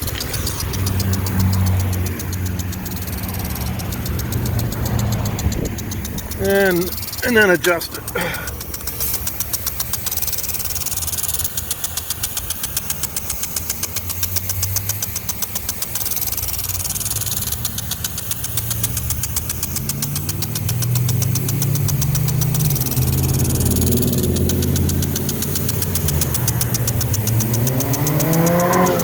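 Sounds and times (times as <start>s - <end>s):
impact sprinkler ticking: 0.0s - 29.0s
water spraying: 0.0s - 29.0s.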